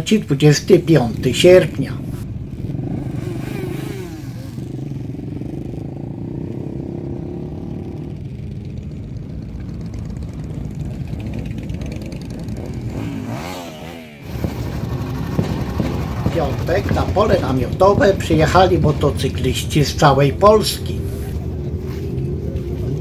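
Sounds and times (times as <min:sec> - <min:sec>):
motorcycles passing at low revs: 0:00.0 - 0:23.0.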